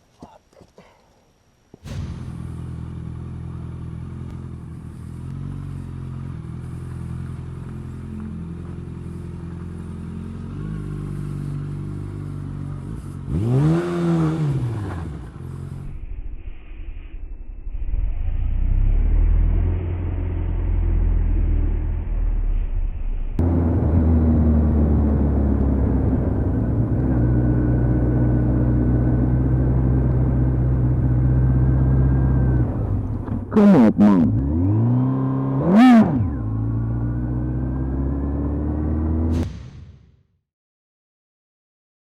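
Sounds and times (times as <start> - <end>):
motorcycle engine revving: 1.8 - 16.0, 17.8 - 39.5
motorcycle engine: 1.8 - 16.6, 17.6 - 39.5.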